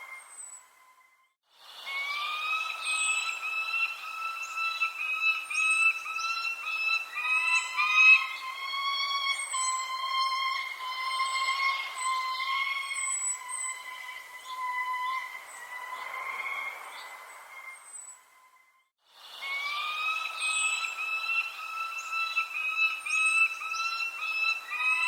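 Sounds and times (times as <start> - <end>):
strident bird calls: 1.8 - 18.2, 19.4 - 25.0
high falling bird chirps: 1.8 - 18.3, 19.6 - 25.0.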